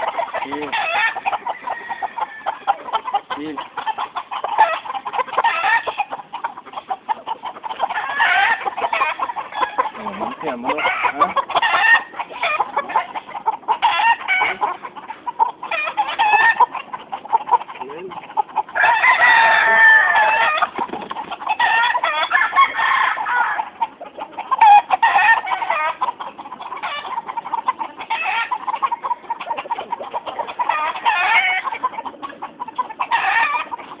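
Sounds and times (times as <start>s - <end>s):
roosters clucking and crowing: 0.0s - 34.0s.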